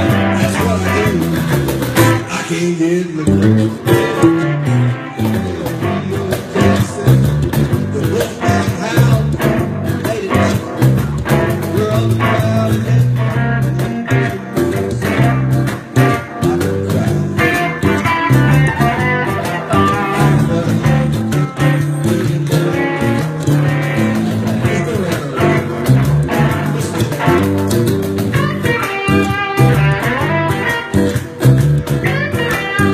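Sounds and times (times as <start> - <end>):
acoustic guitar strumming: 0.0 - 32.9
electric guitar picking notes: 0.0 - 32.9.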